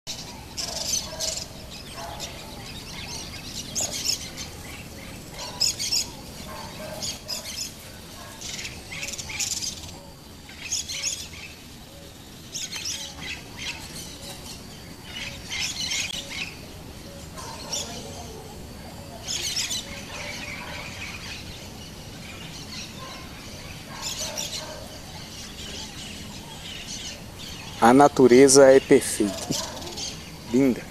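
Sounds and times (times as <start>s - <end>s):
birds chirping: 0.1s - 30.9s.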